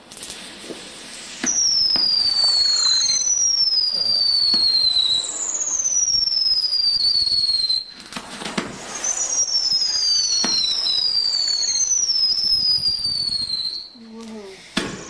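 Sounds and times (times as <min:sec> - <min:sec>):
firework bang: 0:00.0 - 0:15.0
whistling fireworks: 0:00.0 - 0:15.0.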